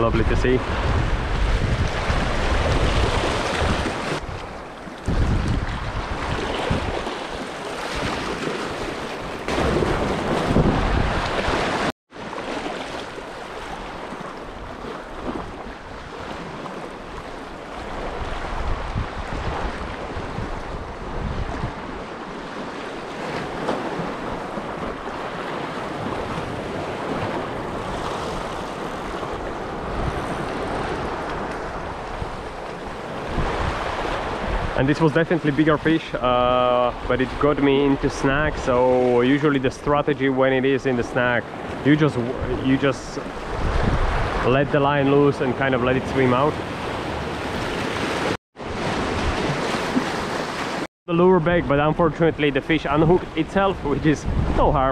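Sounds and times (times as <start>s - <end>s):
wind buffeting microphone: 0.0s - 11.9s, 17.8s - 39.1s, 41.5s - 50.6s, 51.5s - 54.9s.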